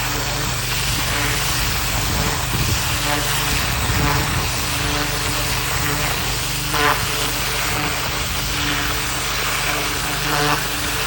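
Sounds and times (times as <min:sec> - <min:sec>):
pressure washer motor drone: 0:00.0 - 0:11.0
water spray hissing on gravel: 0:00.0 - 0:11.0.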